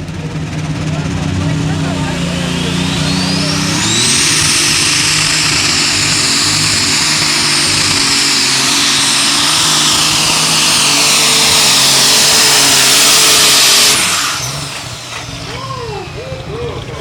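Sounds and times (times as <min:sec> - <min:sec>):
diesel engine running flat out: 0:00.0 - 0:17.0
high turbo whine: 0:00.0 - 0:17.0.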